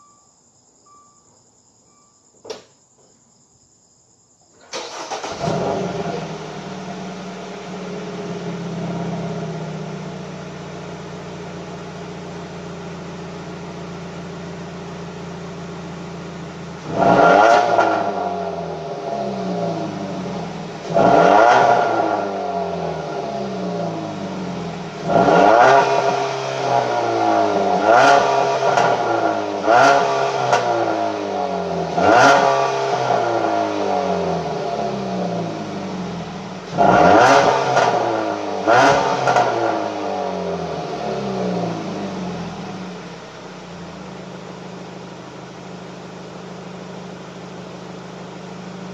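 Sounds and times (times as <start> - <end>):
car engine starting and idling: 4.6 - 48.9
engine revving: 4.7 - 44.2.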